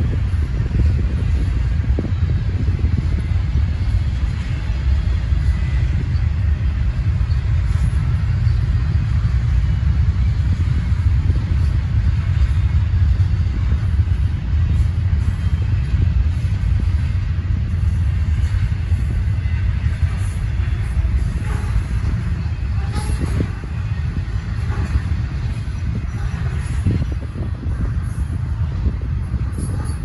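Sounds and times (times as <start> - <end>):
freight train wheels rumbling on rail: 0.0 - 30.0.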